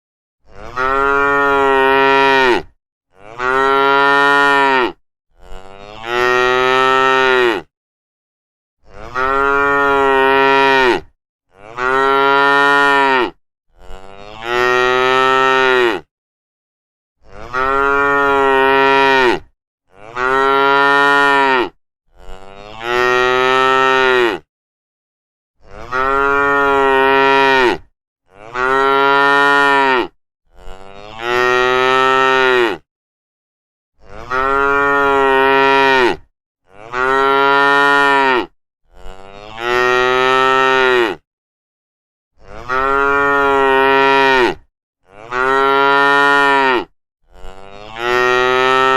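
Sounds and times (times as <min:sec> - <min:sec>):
cows mooing: 0:00.5 - 0:07.7, 0:08.9 - 0:16.1, 0:17.3 - 0:24.5, 0:25.7 - 0:32.8, 0:34.0 - 0:41.2, 0:42.4 - 0:48.9.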